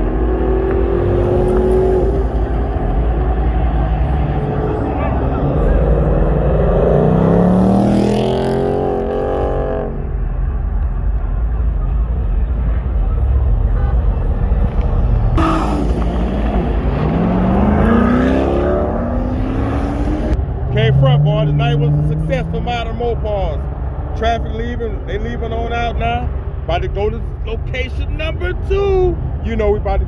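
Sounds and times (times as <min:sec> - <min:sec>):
car engines accelerating hard: 0:00.0 - 0:30.0
steady engine noise: 0:00.0 - 0:30.0.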